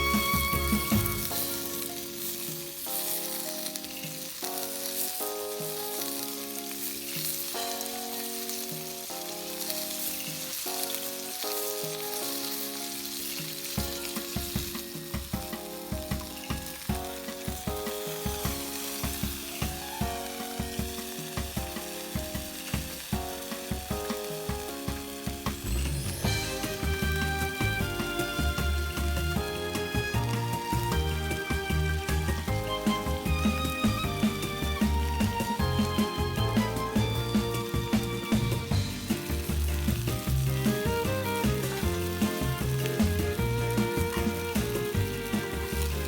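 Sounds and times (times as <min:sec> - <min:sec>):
food sizzling in a pan: 0:00.0 - 0:46.0
soft background music: 0:00.0 - 0:46.0.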